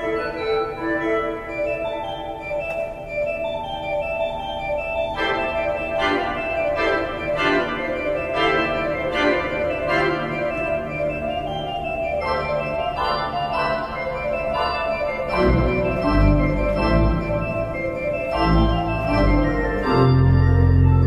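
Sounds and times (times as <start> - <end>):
organ chords: 0.0 - 21.0.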